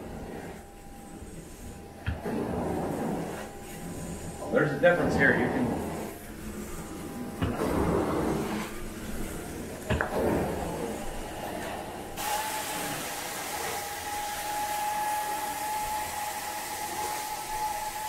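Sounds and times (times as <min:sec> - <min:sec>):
extraction vacuum running: 0:00.0 - 0:18.0.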